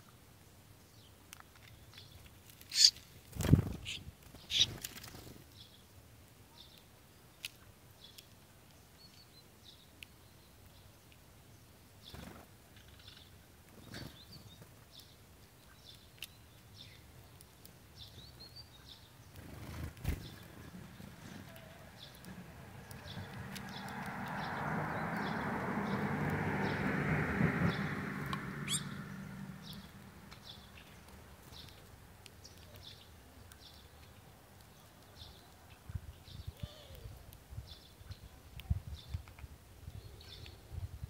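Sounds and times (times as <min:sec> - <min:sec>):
high chirps of small birds: 0:00.8 - 0:40.9.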